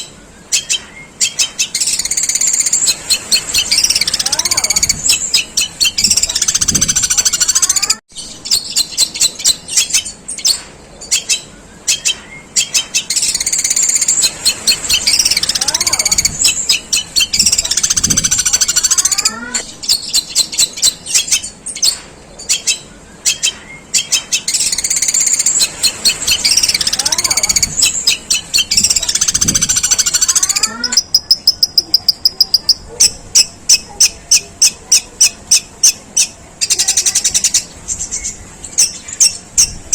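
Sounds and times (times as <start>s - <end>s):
mimicked sparrow chirps: 0.0s - 39.9s
shrike singing harsh chattering song: 0.0s - 39.9s.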